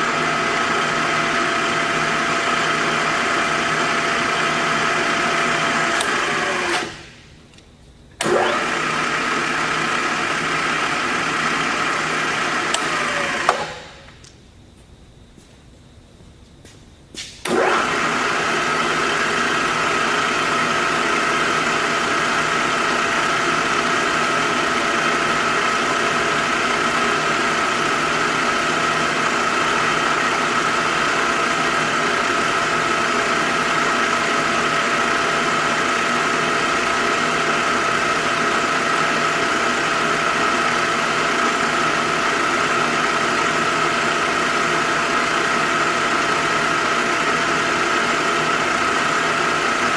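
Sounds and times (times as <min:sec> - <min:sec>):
milling machine whining: 0:00.0 - 0:14.2, 0:17.4 - 0:49.9.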